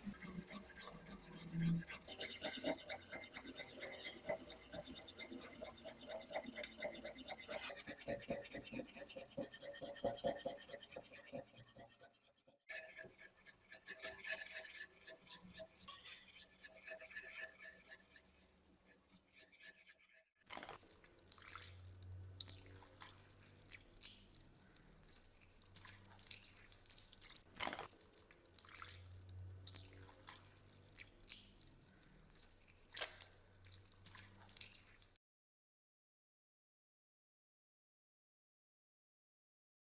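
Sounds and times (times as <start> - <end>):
sharp scratches and clicks: 0.0 - 35.2.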